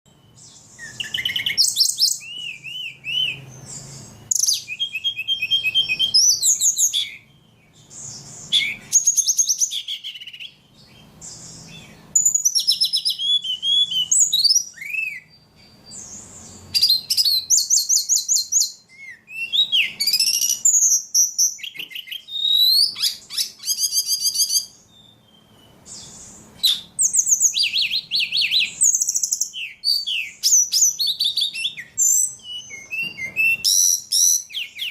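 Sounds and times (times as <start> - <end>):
songbird chirping and trilling: 0.1 - 34.9.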